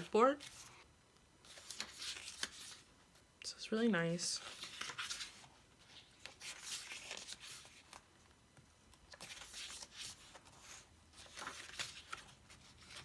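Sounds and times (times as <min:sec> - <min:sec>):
album pages rustling: 0:00.0 - 0:03.2, 0:04.4 - 0:13.0.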